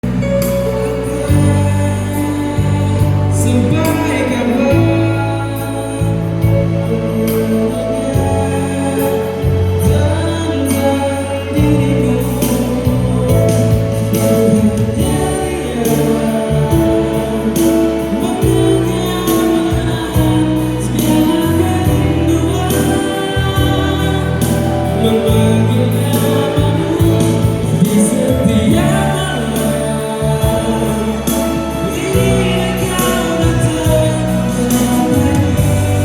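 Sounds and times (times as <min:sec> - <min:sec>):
bass and drum backing track: 0:00.0 - 0:36.0
person singing a pop ballad: 0:00.0 - 0:36.0.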